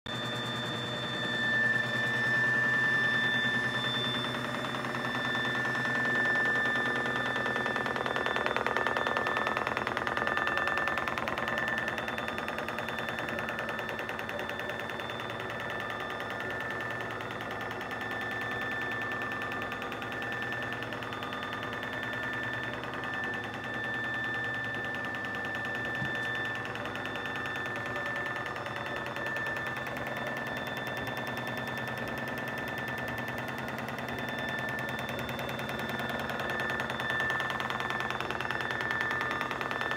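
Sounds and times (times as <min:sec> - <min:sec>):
mechanical whir with high whine: 0:00.1 - 0:39.9.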